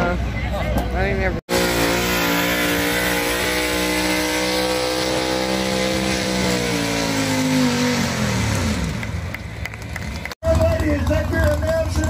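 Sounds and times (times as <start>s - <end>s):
tractor engine at high revs: 1.5s - 12.0s.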